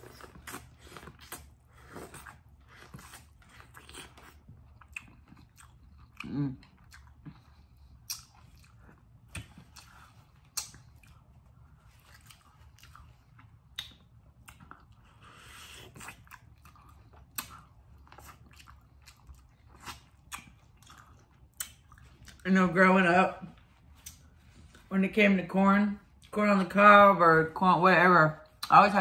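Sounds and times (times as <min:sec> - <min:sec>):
chewing corn with wet mouth sounds: 0:00.0 - 0:22.5, 0:23.5 - 0:24.9.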